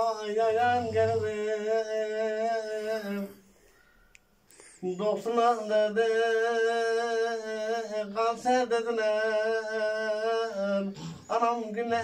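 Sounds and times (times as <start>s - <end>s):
man singing unaccompanied: 0.0s - 3.5s, 4.8s - 12.0s.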